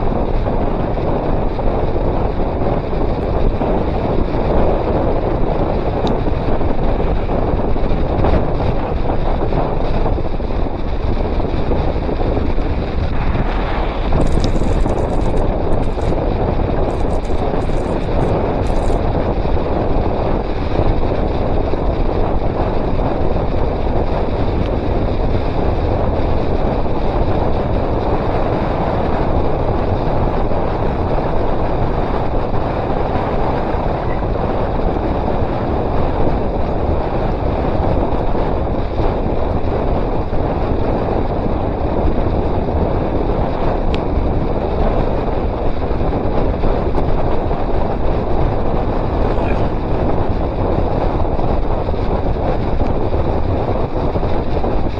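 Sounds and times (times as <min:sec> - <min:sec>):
wind rushing over microphone: 0:00.0 - 0:54.9.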